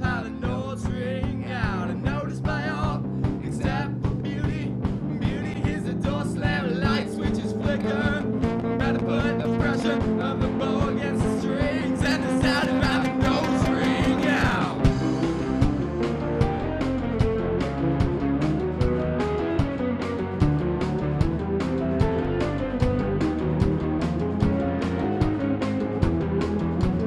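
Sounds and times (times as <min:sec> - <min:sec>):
alternative rock music: 0:00.0 - 0:27.0.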